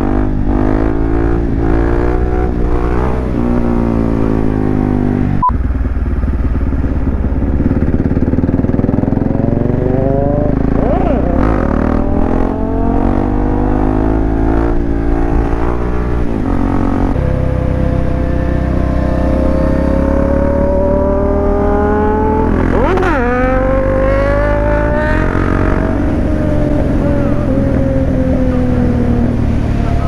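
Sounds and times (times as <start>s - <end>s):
motorcycle engine running: 0.0s - 30.0s
wind and road rumble: 0.0s - 30.0s.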